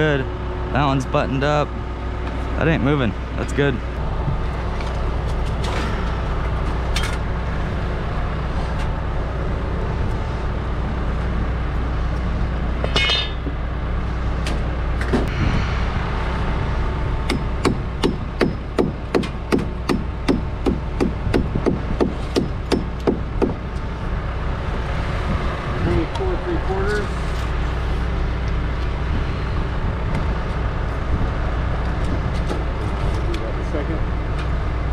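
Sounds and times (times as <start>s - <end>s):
low rumble: 0.0s - 34.9s.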